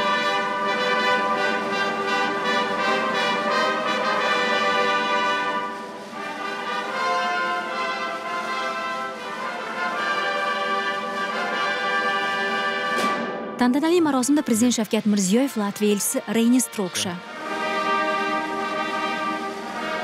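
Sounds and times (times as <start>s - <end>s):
brass band playing: 0.0s - 13.6s, 14.2s - 20.0s.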